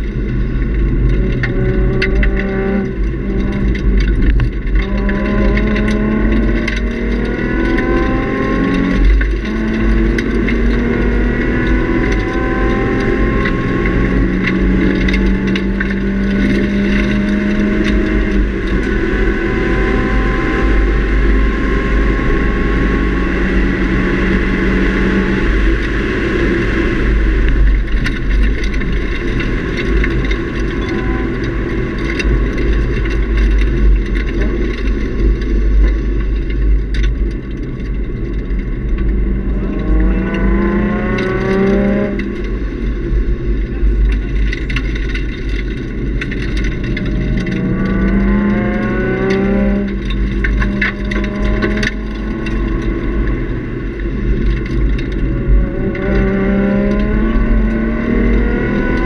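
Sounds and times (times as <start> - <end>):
car engine revving at high revs: 0.0 - 59.0
road and wind noise: 0.0 - 59.0.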